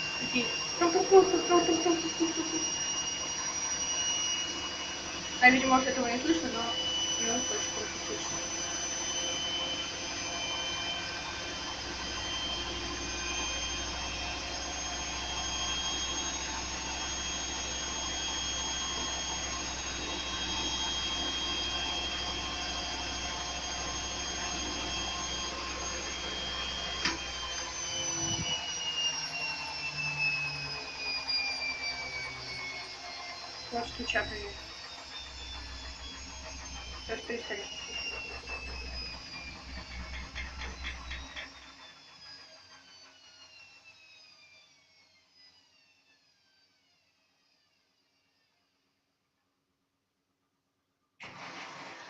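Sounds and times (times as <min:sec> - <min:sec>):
washing machine spinning: 0:00.0 - 0:44.7, 0:51.2 - 0:52.0.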